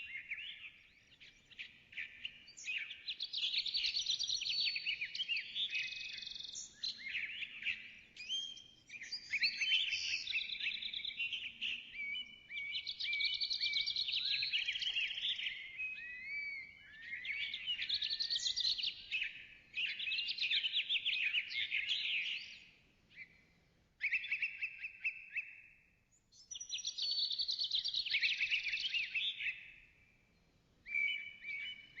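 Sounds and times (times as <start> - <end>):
bird singing chirps and whistles: 0.0 - 32.0.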